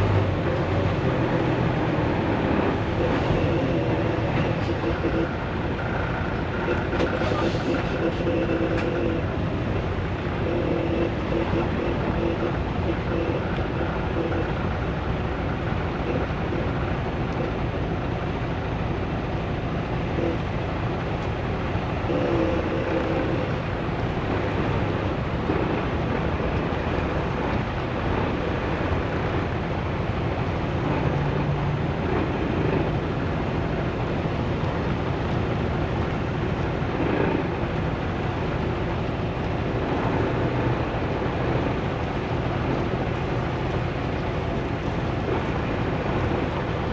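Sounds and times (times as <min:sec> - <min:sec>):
road rumble: 0:00.0 - 0:46.9
truck engine: 0:00.0 - 0:46.9.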